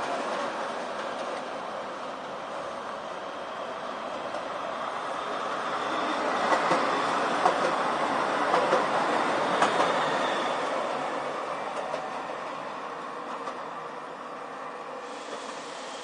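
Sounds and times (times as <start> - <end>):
tram passing: 0.0 - 16.0.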